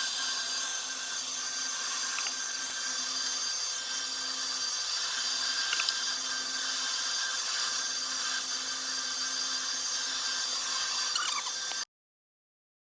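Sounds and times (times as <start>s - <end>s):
power tool whining: 0.0s - 11.9s.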